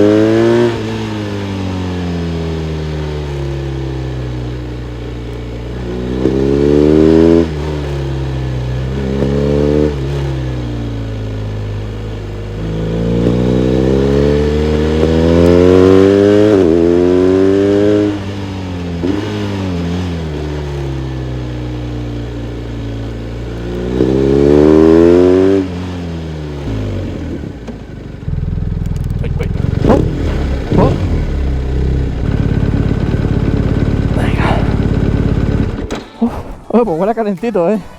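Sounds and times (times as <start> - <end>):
motorcycle engine accelerating: 0.0 - 36.2.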